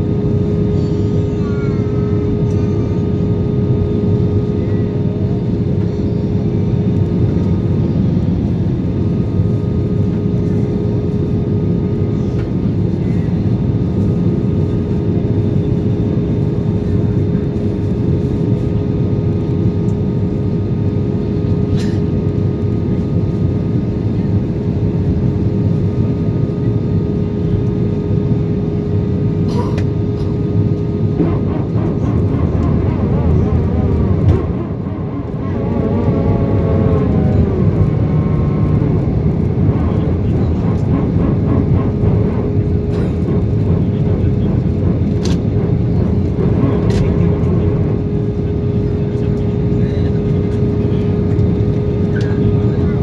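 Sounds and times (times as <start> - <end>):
jet engine rumble in cabin: 0.0 - 53.0.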